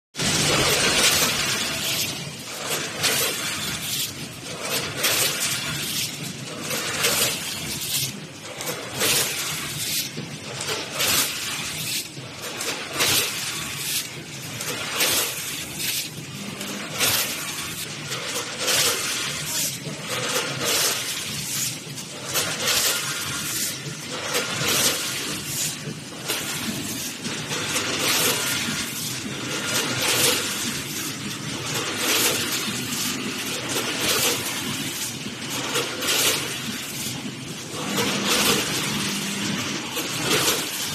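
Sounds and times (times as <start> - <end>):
packaging machine running: 0.2 - 40.9.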